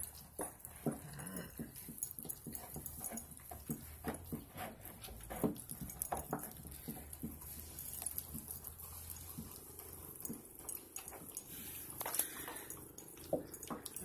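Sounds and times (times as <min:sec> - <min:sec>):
puppies chewing bones: 0:00.0 - 0:14.0.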